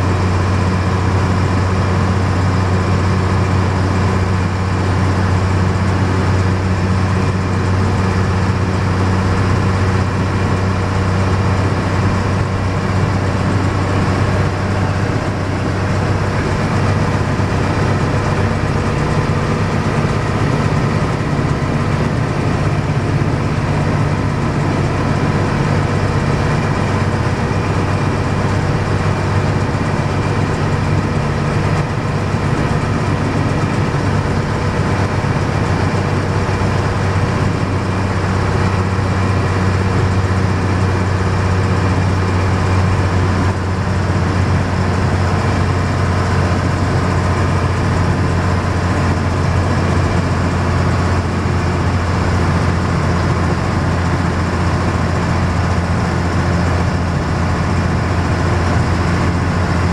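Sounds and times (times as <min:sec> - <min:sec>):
bus diesel engine running: 0:00.0 - 0:59.9
road noise: 0:00.0 - 0:59.9.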